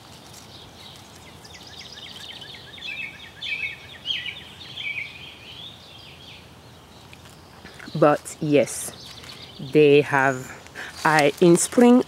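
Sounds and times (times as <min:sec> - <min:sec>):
outdoor background noise: 0:00.0 - 0:12.0
songbird chirping: 0:00.0 - 0:12.0.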